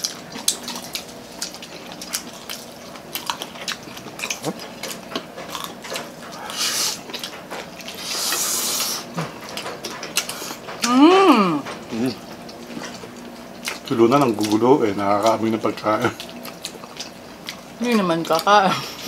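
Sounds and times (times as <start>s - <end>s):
people crunching fried chicken: 0.0s - 11.0s, 11.6s - 19.0s.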